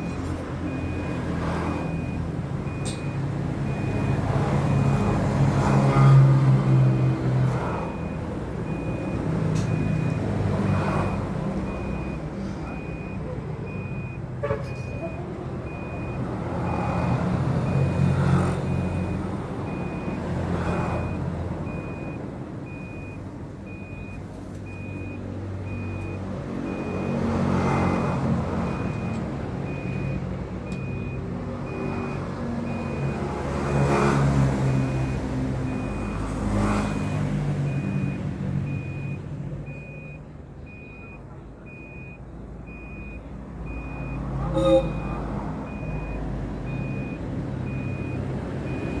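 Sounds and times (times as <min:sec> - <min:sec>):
reversing alarm beeping: 0:00.7 - 0:49.0.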